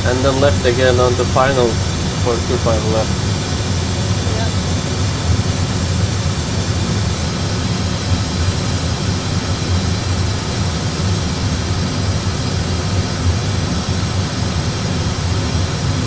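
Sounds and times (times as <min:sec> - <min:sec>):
cockpit engine rumble and hiss: 0:00.0 - 0:16.0.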